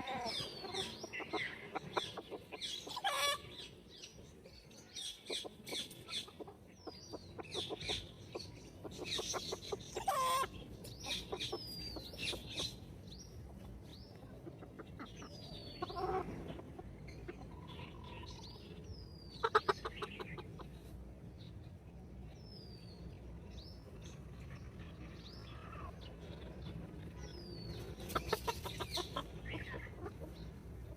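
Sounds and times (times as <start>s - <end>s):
hens clucking: 0.0s - 4.4s, 5.1s - 21.1s, 23.9s - 30.9s
chicks peeping: 0.0s - 30.9s.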